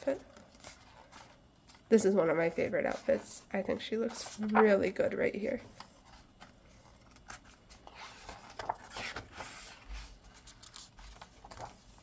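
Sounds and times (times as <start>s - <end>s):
paper pages rustling: 0.0s - 5.0s, 5.6s - 12.0s.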